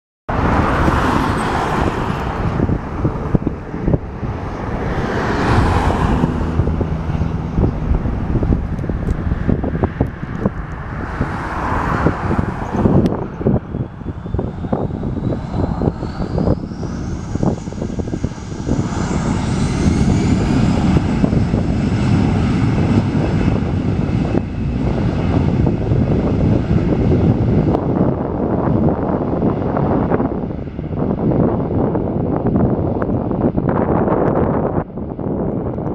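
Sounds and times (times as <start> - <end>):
jet engine whine rising: 0.3 - 35.9
jet engines rumbling: 0.3 - 35.9.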